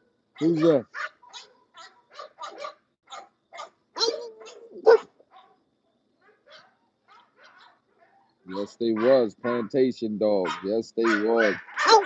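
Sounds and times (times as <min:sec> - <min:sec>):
dogs barking and yipping: 0:00.4 - 0:05.6, 0:06.2 - 0:09.8, 0:10.4 - 0:12.0.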